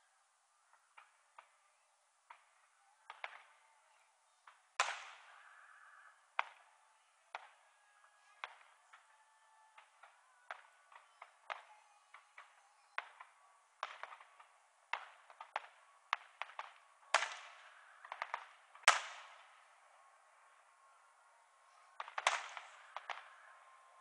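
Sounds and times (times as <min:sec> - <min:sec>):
fireworks bangs and crackles: 0:02.3 - 0:21.0, 0:21.6 - 0:24.0.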